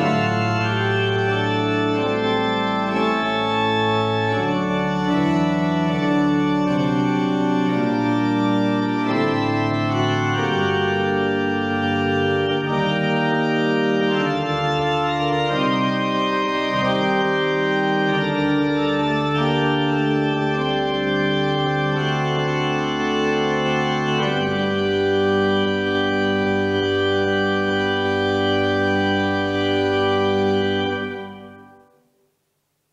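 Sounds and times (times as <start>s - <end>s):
organ pedal bass line: 0.0s - 32.0s
church organ playing chords: 0.0s - 32.1s.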